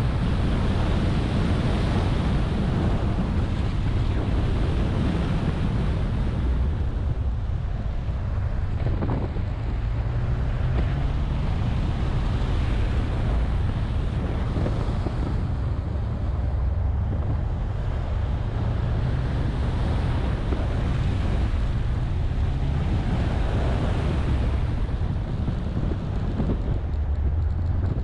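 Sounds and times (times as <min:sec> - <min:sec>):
engine and tyres rumbling: 0:00.0 - 0:28.0
wind buffeting microphone: 0:00.0 - 0:28.0.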